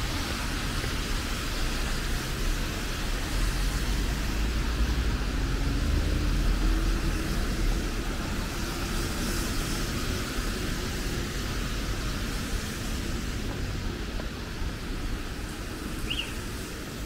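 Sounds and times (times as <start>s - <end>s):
traffic rumble: 0.0s - 17.0s
tyre hiss on wet road: 0.0s - 17.0s.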